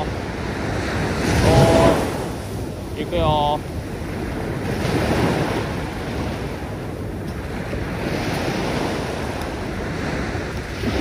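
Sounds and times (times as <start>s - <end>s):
waves washing up pebbly shore: 0.0s - 6.7s, 7.3s - 11.0s.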